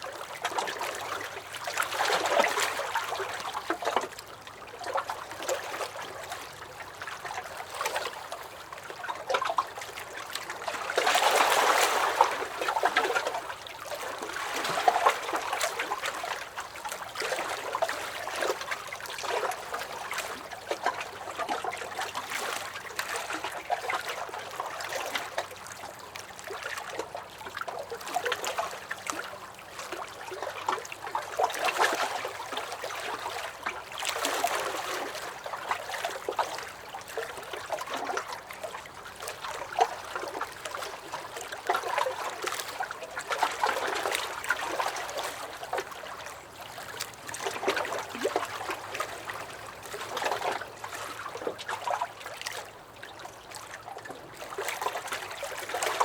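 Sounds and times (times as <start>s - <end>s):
waves lapping against a dock: 0.0s - 56.0s.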